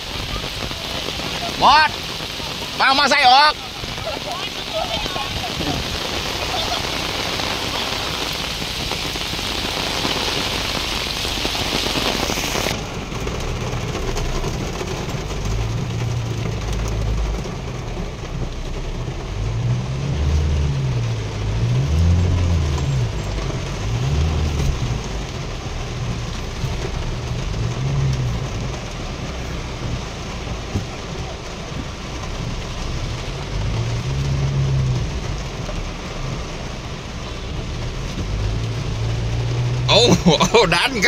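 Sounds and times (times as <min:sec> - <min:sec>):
heavy rain pouring: 0:00.0 - 0:41.0
rain on vehicle windshield and roof: 0:00.0 - 0:41.0.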